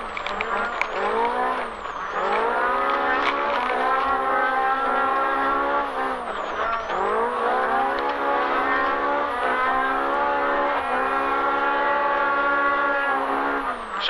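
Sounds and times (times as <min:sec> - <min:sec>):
engine running at high revs: 0:00.0 - 0:14.0.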